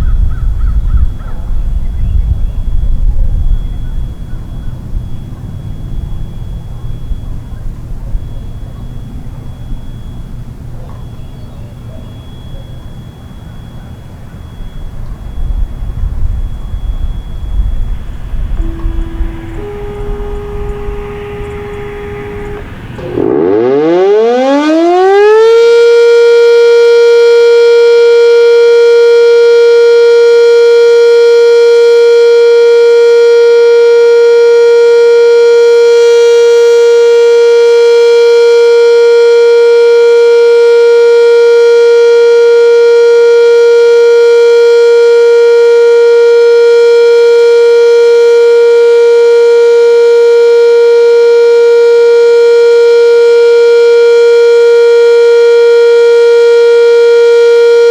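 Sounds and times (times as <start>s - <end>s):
loud steady warning siren: 0.0s - 57.9s.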